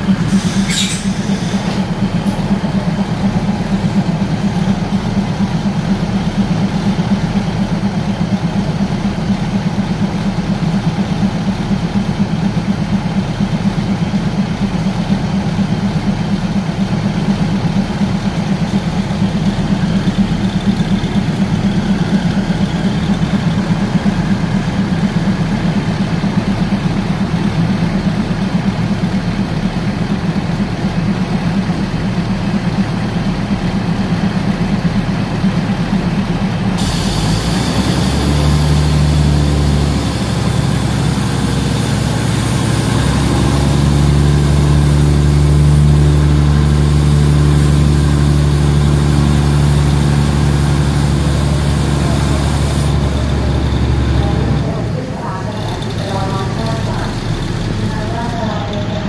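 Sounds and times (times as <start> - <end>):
train diesel engine running: 0.0 - 59.0.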